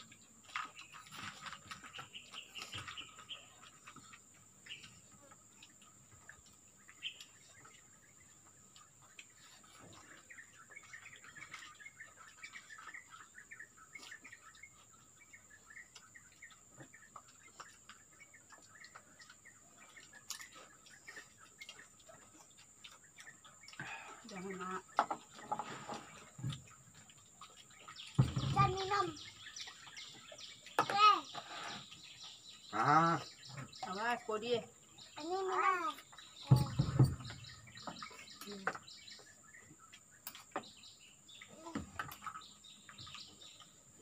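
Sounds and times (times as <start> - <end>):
faint bird chirping: 0.0 - 44.0.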